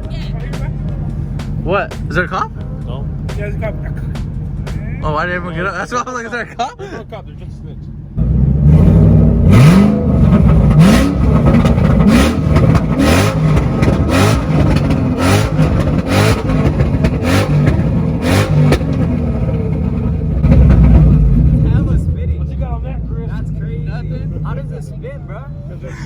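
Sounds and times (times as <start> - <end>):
exhaust pops: 0.0 - 6.0, 7.3 - 24.9
car engine revving: 0.0 - 26.0.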